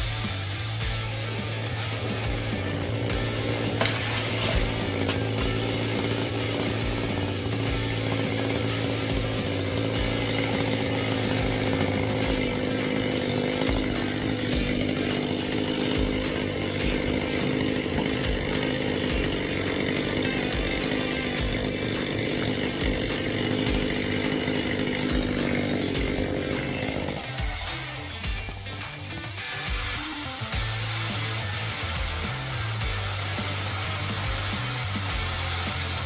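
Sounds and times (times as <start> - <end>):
chainsaw engine running: 0.0 - 36.0.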